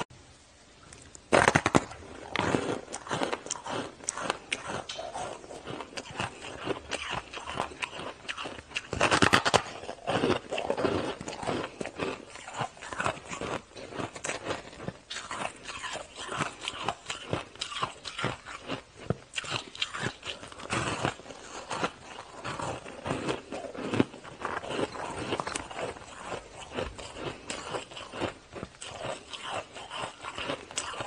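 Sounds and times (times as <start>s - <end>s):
crunching and chewing ice: 1.0s - 31.0s.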